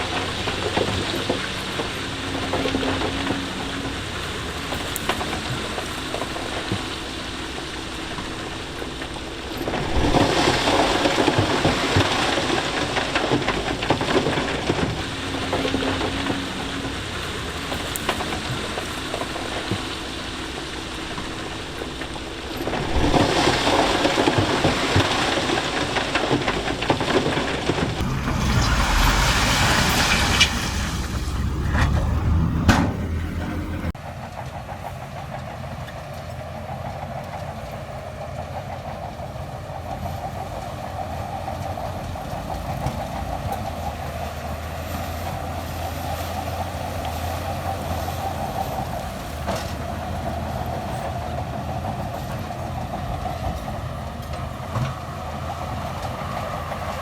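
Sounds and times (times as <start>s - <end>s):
diesel engine running: 0.0s - 57.0s
gravel crunching and clattering: 0.0s - 57.0s.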